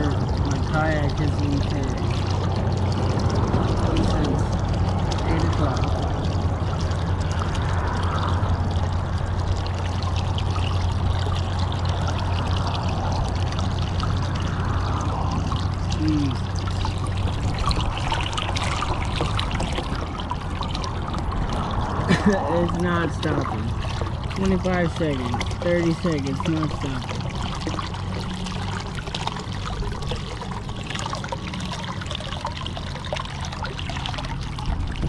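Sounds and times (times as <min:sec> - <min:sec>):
steady low hum: 0:00.0 - 0:35.0
water pouring out of kayak: 0:00.0 - 0:35.0.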